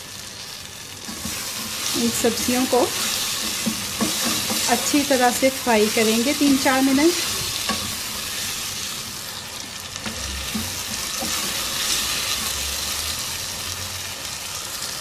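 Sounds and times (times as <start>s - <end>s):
vegetables sizzling in hot oil: 0.0s - 15.0s
spatula stirring: 1.0s - 13.7s.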